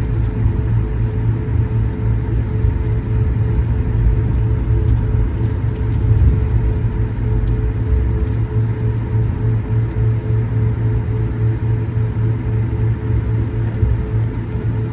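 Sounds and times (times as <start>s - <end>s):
airliner cabin rumble: 0.0s - 14.9s
steady hum: 0.0s - 14.9s.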